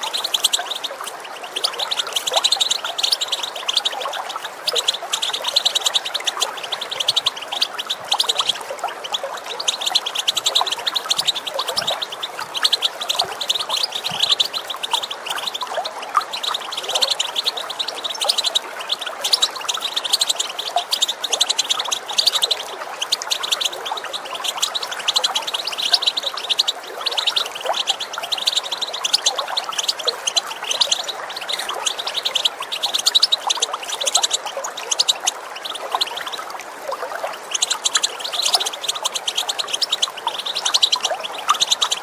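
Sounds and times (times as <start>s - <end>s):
finches chattering calls: 0.0s - 42.0s
running water: 0.0s - 42.0s.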